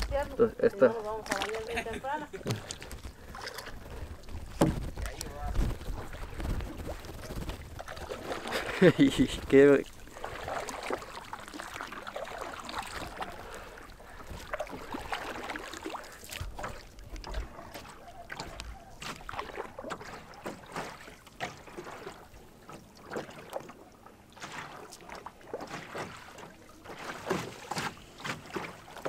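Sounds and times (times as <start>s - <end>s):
paddle splashing in water: 0.0s - 29.0s
water sloshing against hull: 0.0s - 29.0s.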